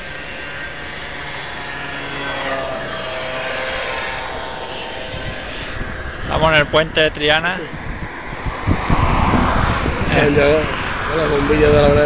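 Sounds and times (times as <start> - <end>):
traffic rushing noise: 0.0 - 12.0
vehicle engine passing: 0.0 - 12.0.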